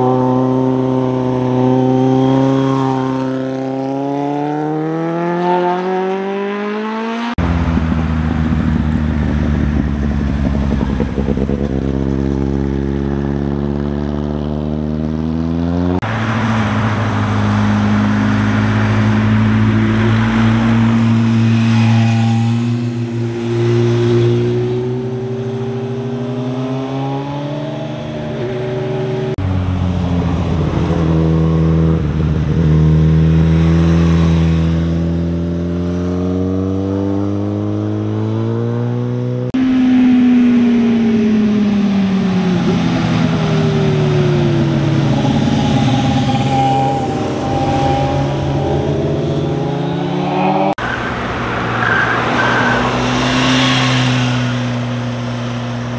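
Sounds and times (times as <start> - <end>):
motorcycle engines accelerating: 0.0 - 55.9.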